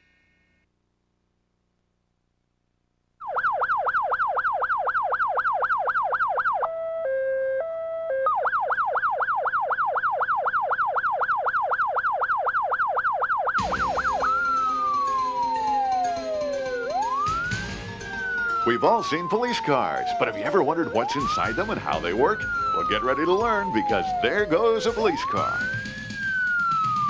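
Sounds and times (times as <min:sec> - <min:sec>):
police siren yelping: 0:03.2 - 0:27.0.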